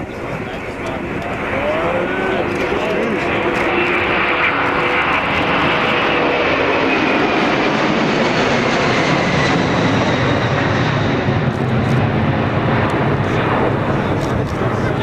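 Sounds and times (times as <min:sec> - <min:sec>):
jet aircraft engines roaring: 0:00.0 - 0:15.0.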